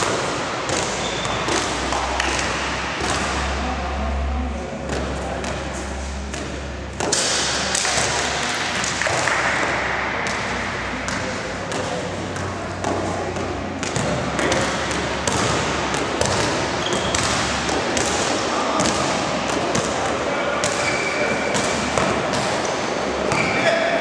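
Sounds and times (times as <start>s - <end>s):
basketball bouncing on court: 0.0s - 3.6s, 4.8s - 23.6s
indistinct voices: 0.0s - 24.0s.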